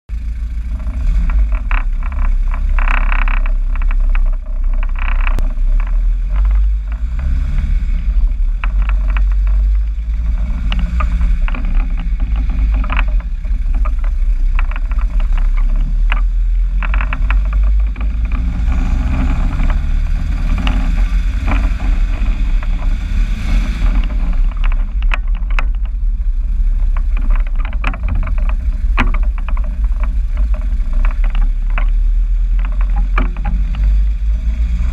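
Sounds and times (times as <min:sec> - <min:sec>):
vehicle engine deep rumble: 0:00.0 - 0:34.9.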